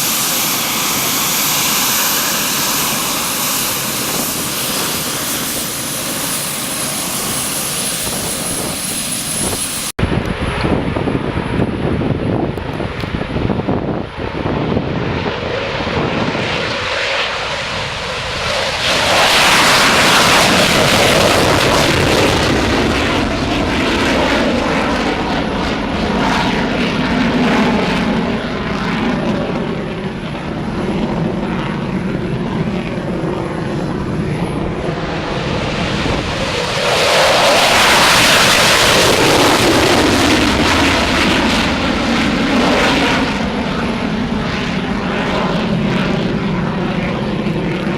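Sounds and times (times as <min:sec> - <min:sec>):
jet engine roar: 0:00.0 - 0:47.9.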